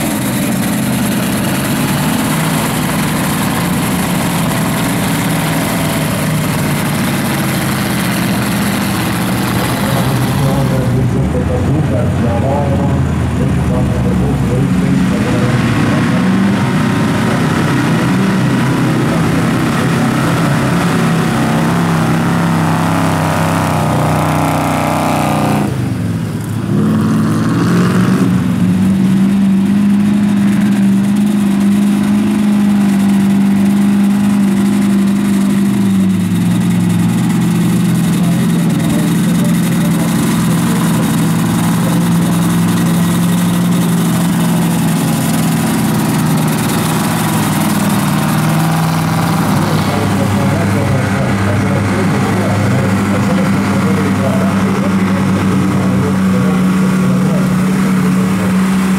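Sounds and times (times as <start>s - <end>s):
steady engine note: 0.0s - 58.9s
truck engines revving in mud: 0.0s - 58.9s.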